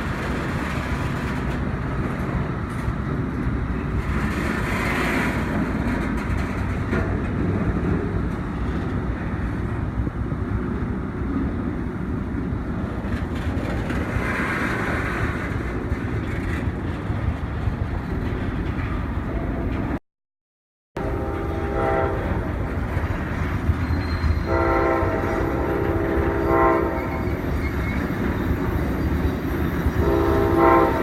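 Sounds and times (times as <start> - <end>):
train wheels rumbling on rail: 0.0 - 20.0, 21.0 - 31.0.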